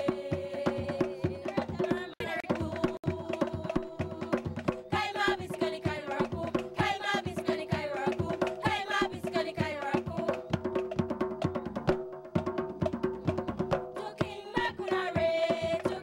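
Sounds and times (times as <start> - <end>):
fast drum percussion: 0.0 - 16.0.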